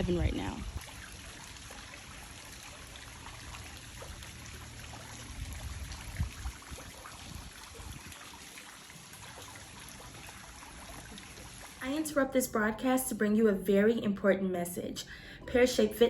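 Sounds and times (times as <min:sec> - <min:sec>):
running water trickling: 0:00.0 - 0:13.1.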